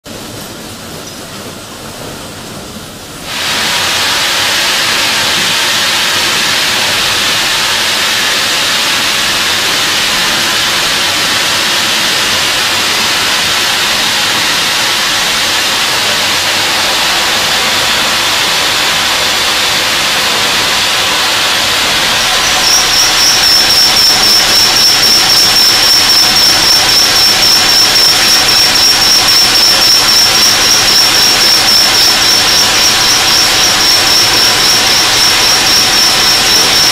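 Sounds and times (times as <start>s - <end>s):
high-pitched pulsing whine: 3.2s - 36.9s
loud even machining hiss: 3.2s - 36.9s.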